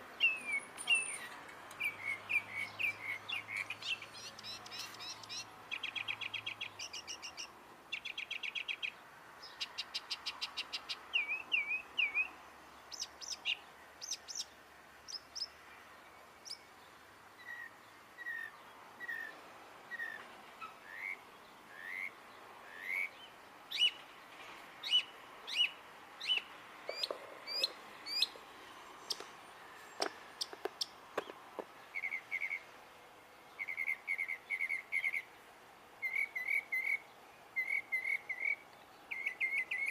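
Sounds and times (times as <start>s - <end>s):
songbird singing varied song: 0.2s - 24.1s, 24.8s - 32.7s, 33.4s - 35.4s, 36.0s - 39.9s.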